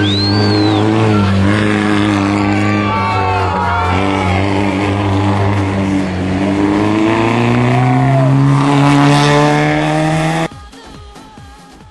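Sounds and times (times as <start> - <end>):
rally car engine accelerating: 0.0 - 10.5.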